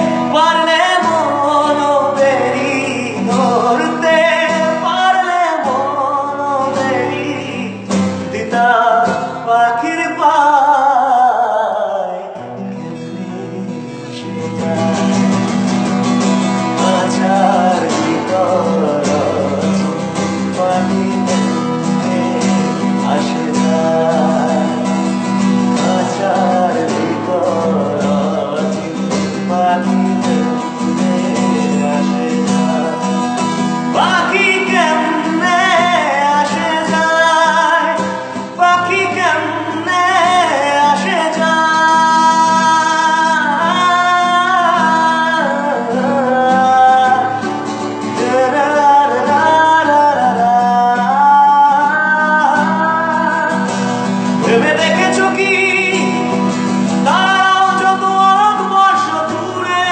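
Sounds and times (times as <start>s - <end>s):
strummed acoustic guitar: 0.0s - 59.9s.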